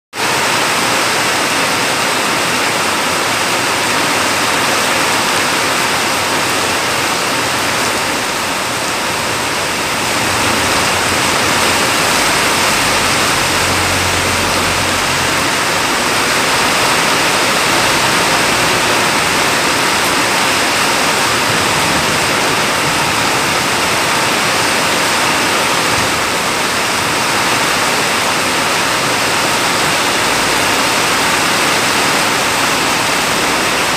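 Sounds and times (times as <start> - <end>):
heavy rain pouring: 0.1 - 33.9
truck rumble passing: 0.3 - 33.9.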